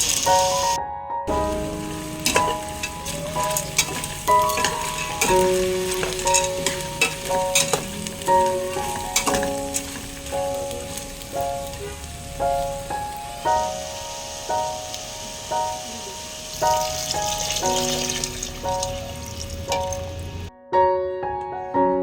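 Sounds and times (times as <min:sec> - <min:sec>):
food sizzling in a pan: 0:00.0 - 0:20.5
instrumental music: 0:00.0 - 0:22.0.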